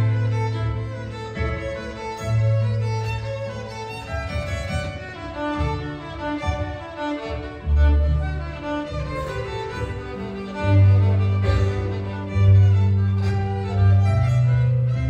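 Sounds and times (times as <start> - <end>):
low accompaniment notes: 0.0 - 15.0
violin bowed melody: 0.0 - 15.0.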